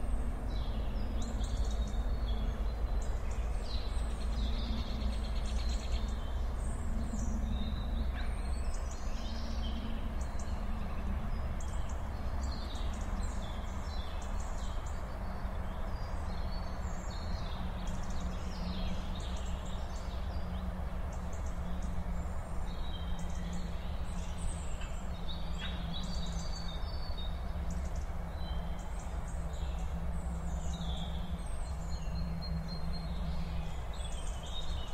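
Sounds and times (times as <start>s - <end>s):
small birds chirping and whistling: 0.0s - 34.9s
steady low rumble: 0.0s - 34.9s.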